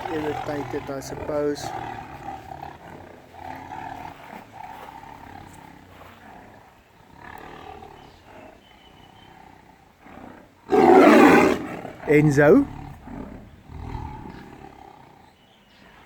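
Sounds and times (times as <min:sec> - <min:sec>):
tigers growling: 0:00.0 - 0:16.0.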